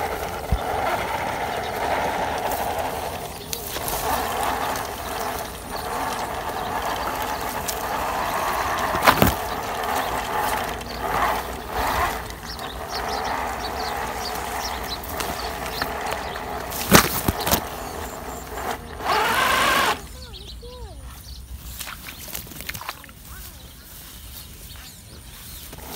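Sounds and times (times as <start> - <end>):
toy truck motor whirring: 0.0 - 21.0, 25.4 - 25.9.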